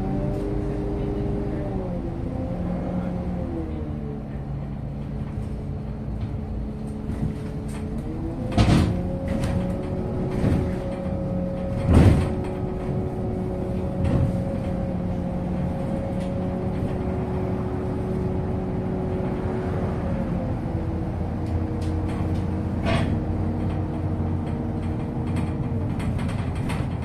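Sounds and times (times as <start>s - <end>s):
bus drivetrain humming: 0.0s - 27.0s.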